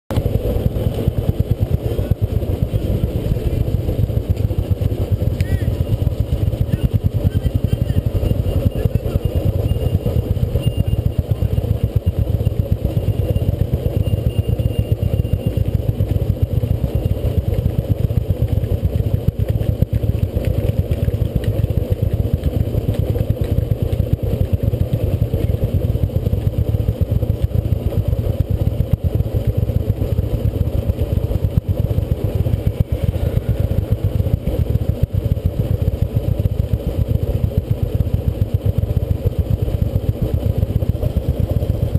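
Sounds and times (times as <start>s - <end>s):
motorcycle engine idling: 0.2s - 41.9s.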